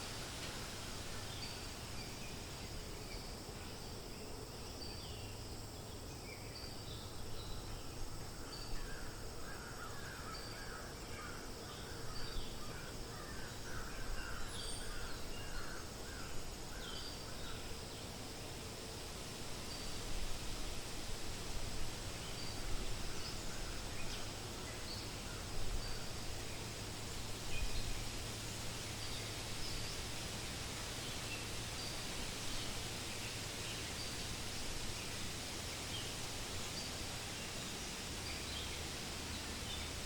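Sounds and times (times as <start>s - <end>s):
wind rustling leaves: 0.0s - 40.0s.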